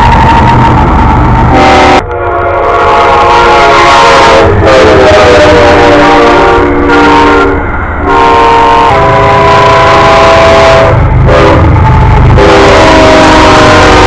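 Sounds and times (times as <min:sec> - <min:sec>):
passing train rumble: 0:00.0 - 0:14.0
locomotive air horn chords: 0:01.5 - 0:14.0.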